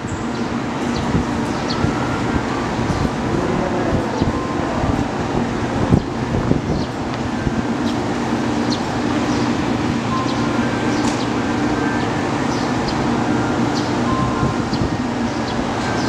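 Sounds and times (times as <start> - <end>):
electric train equipment hum: 0.0 - 16.0.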